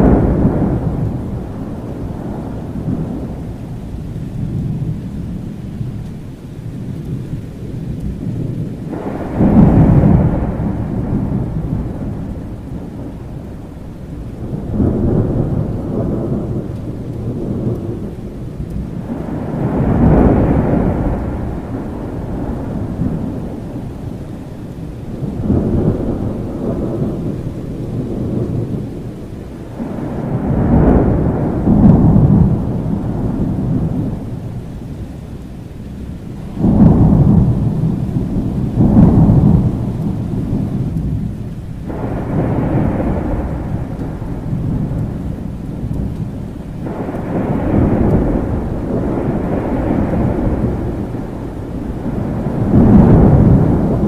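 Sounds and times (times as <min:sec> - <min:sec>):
thunder rolling: 0:00.0 - 0:06.2, 0:06.8 - 0:54.0
steady rain: 0:00.0 - 0:54.0.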